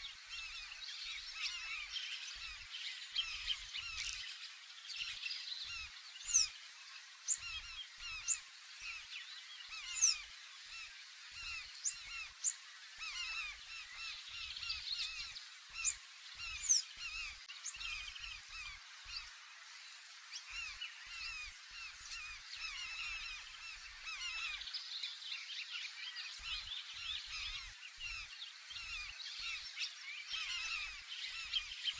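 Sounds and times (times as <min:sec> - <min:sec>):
flock of terns calling: 0:00.0 - 0:19.4, 0:20.3 - 0:24.7, 0:25.6 - 0:31.9.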